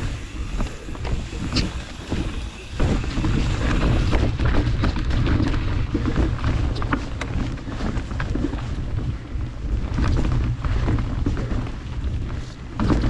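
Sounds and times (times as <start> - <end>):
bike clicks and rattles: 0.0 - 13.0
bike tyre rumble on dirt: 0.0 - 13.0
wind buffeting microphone: 0.0 - 13.0.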